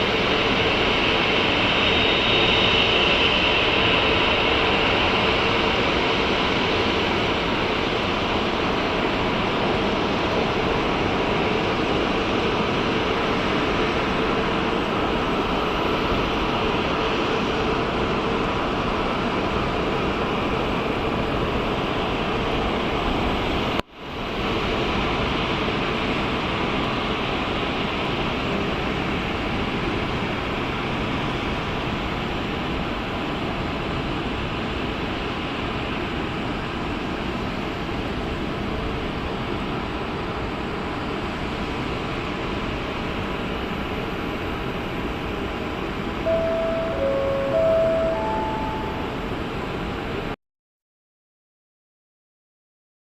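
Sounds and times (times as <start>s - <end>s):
jet engines running: 0.0s - 50.2s.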